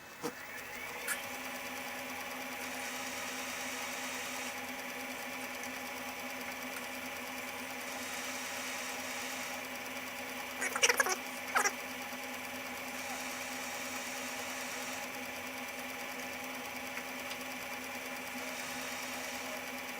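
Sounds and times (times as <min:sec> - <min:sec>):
lathe humming with a whine: 0:00.0 - 0:19.9.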